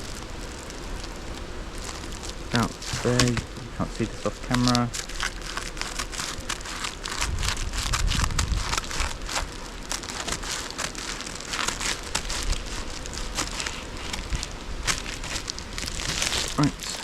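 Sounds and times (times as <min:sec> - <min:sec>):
foil crinkling: 0:00.0 - 0:17.0.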